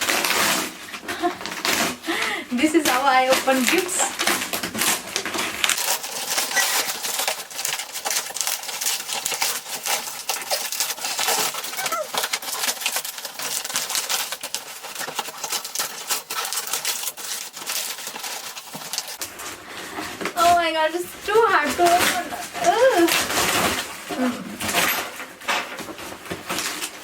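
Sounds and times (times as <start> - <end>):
plastic packaging tearing and crinkling: 0.0 - 27.0.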